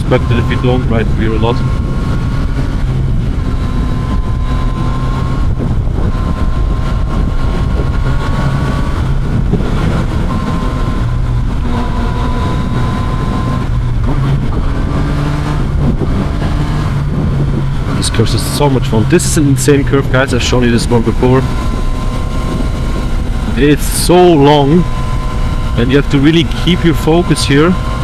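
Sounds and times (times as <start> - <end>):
motorcycle engine running: 0.0 - 28.0
road noise: 0.0 - 28.0
wind noise: 0.0 - 28.0.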